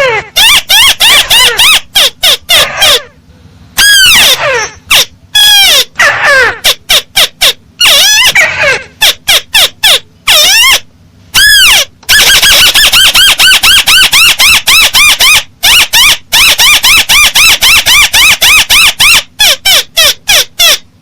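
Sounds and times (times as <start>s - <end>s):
crake calls: 3.8s - 20.8s.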